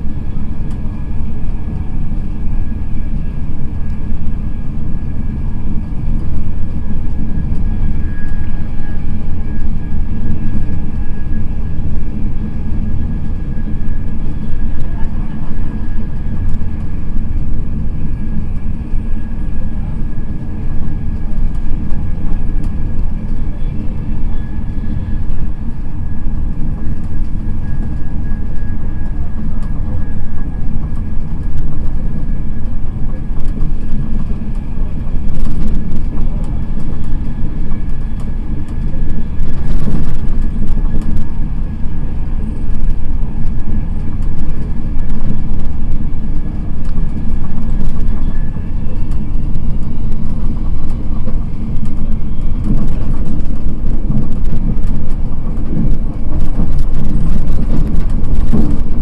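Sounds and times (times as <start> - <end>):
faint steady whine: 0.0 - 59.0
train wheels rumbling on rails: 0.0 - 59.0.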